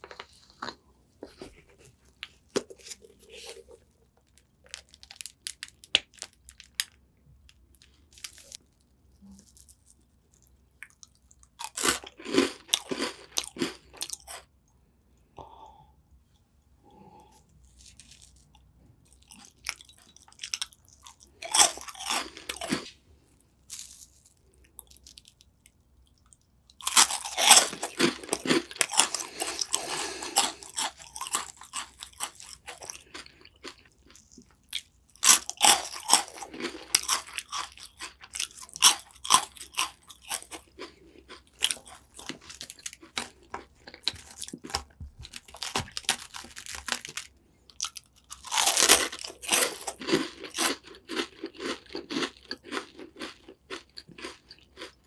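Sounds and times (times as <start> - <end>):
biscuits crunching: 0.0 - 14.5, 17.5 - 55.0.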